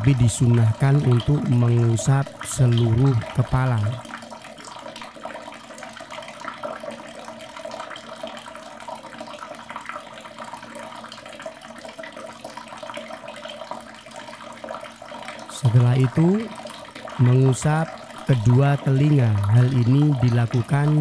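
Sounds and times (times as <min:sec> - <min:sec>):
water running from a tap: 0:00.0 - 0:21.0.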